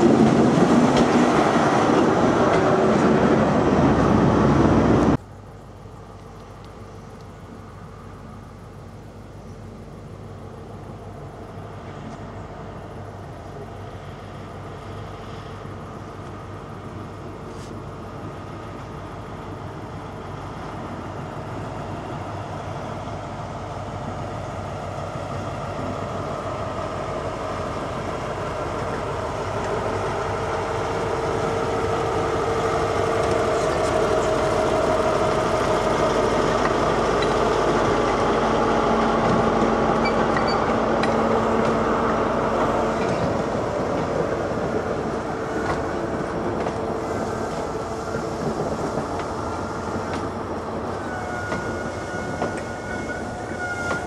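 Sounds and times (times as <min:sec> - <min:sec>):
coaches rolling on rails: 0:00.0 - 0:15.0, 0:15.6 - 0:54.0
diesel train engine passing: 0:00.0 - 0:54.0.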